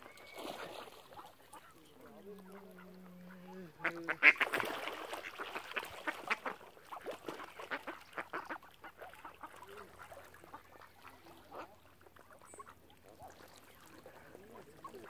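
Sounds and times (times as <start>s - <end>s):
ducks quacking: 0.4s - 15.0s.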